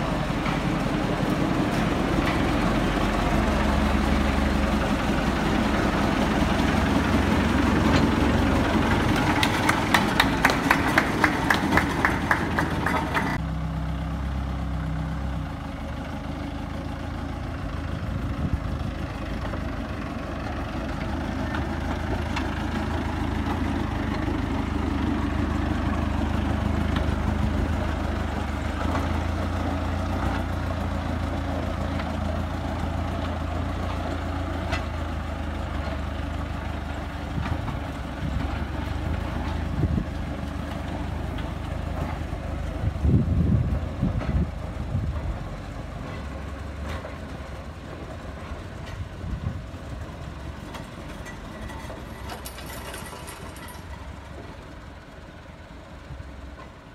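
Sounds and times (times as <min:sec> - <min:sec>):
diesel locomotive engine running: 0:00.0 - 0:56.9.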